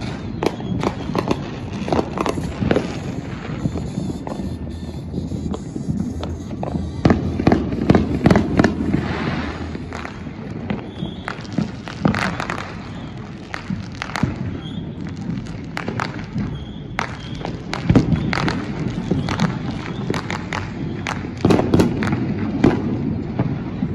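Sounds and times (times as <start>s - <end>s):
fireworks banging and popping: 0.0s - 23.9s.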